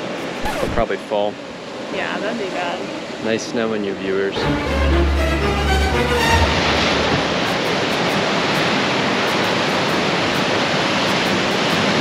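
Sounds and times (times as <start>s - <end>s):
ocean surf against rocks: 0.0s - 12.0s.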